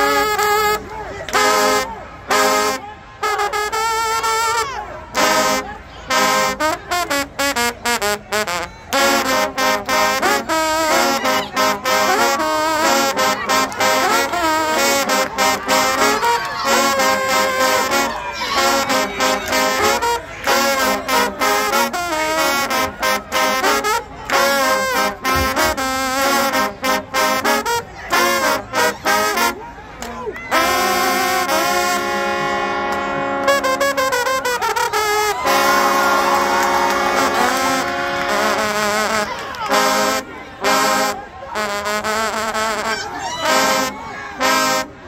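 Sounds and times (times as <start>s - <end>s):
trombones playing brassy tune: 0.0s - 45.0s.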